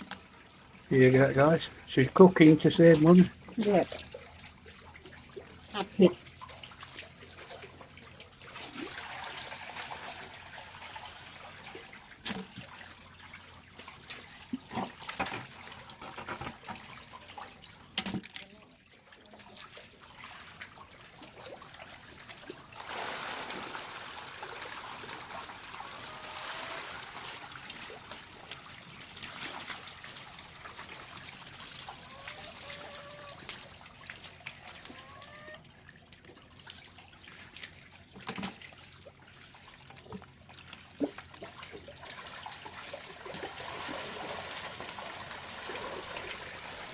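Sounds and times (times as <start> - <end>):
tap water running into basin: 0.0 - 18.6, 19.2 - 46.9
water splashing: 0.0 - 46.9.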